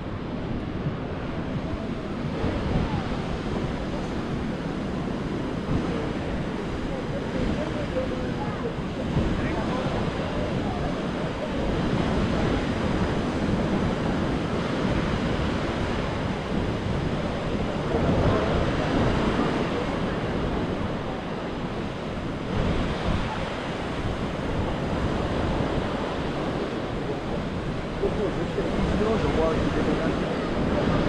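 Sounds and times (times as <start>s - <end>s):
sea surf washing onto sand: 0.0s - 31.0s
wind rumbling on microphone: 0.0s - 31.0s.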